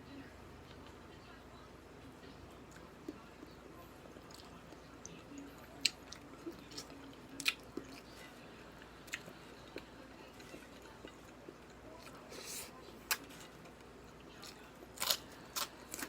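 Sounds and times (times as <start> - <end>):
person chewing food: 2.7 - 16.0.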